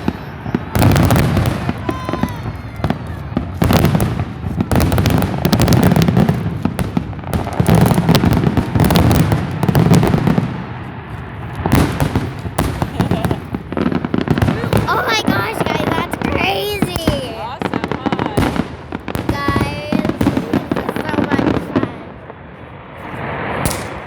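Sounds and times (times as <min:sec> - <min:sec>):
fireworks bangs and crackles: 0:00.0 - 0:24.0
low firework booms: 0:00.0 - 0:24.0.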